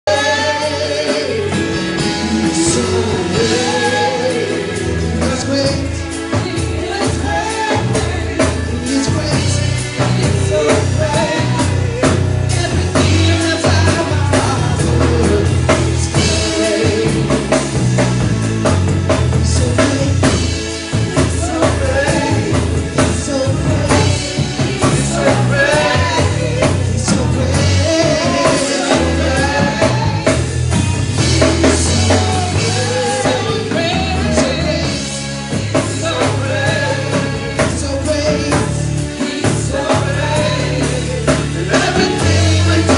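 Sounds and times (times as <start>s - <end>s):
worship band playing: 0.0s - 42.9s
person singing: 0.1s - 17.8s, 19.3s - 30.5s, 31.2s - 42.9s.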